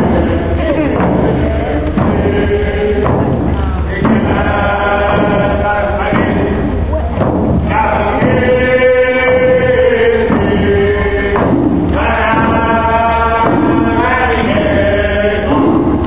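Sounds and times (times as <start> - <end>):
frame drums beating: 0.0 - 16.0
group chanting long notes: 0.0 - 16.0.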